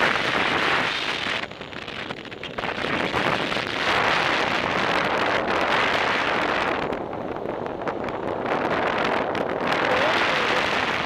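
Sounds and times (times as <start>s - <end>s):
airflow rushing over microphone: 0.0s - 11.0s.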